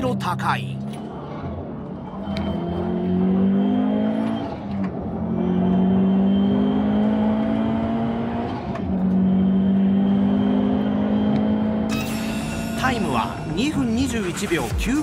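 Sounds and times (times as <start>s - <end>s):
turbocharged car engine accelerating: 0.0s - 15.0s.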